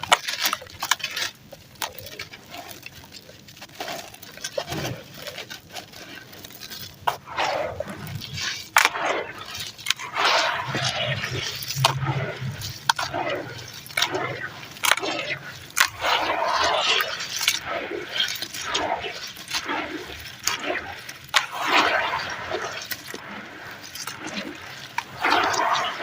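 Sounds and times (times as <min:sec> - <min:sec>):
ash being crushed and rubbed: 0:00.0 - 0:26.0
sharp crackles: 0:00.0 - 0:26.0.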